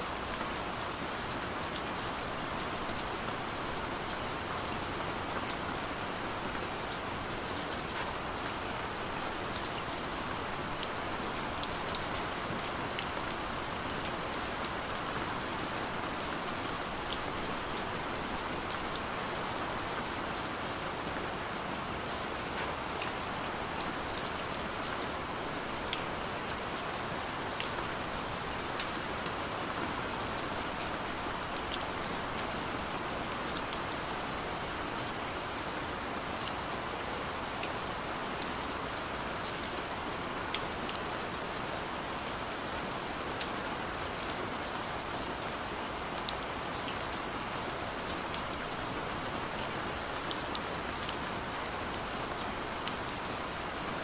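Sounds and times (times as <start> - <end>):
gentle rain hissing: 0.0 - 54.0
raindrops ticking on a surface: 0.1 - 54.0.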